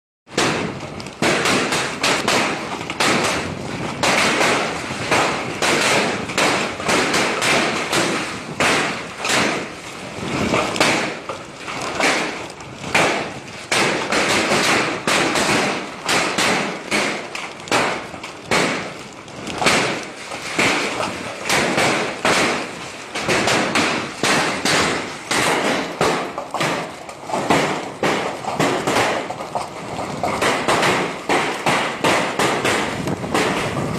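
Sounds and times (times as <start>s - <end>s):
hailstones pelting hard surfaces: 0.3s - 33.9s.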